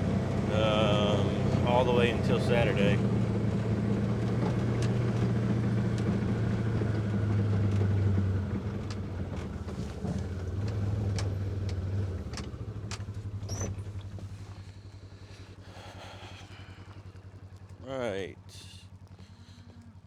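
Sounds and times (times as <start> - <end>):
utility vehicle engine: 0.0 - 20.0.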